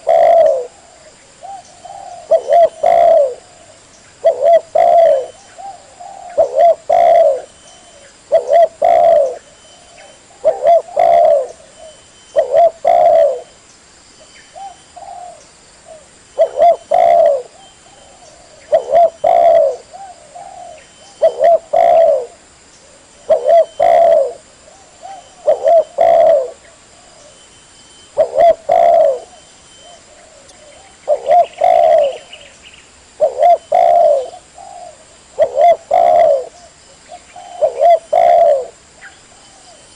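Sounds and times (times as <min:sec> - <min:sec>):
dove cooing: 0:00.0 - 0:13.6, 0:14.5 - 0:39.9.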